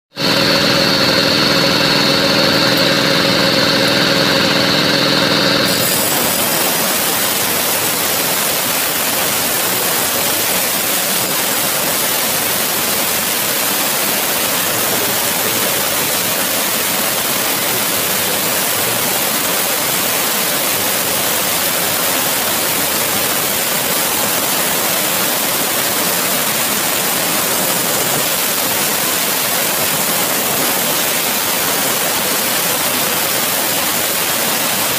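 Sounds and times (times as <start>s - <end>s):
circular saw whining: 0.2s - 34.9s
saw grinding through stone: 0.2s - 34.9s
water spraying: 0.2s - 34.9s.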